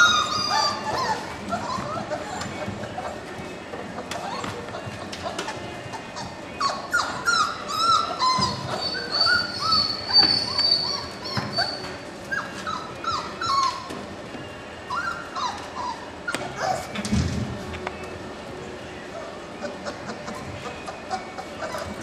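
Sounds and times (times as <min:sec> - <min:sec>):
puppies whimpering and yipping: 0:00.0 - 0:14.1, 0:14.8 - 0:17.0, 0:19.0 - 0:22.0.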